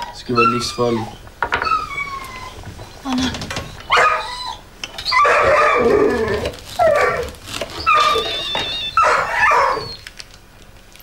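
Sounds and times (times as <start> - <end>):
dog barking and whining: 0.0 - 10.2.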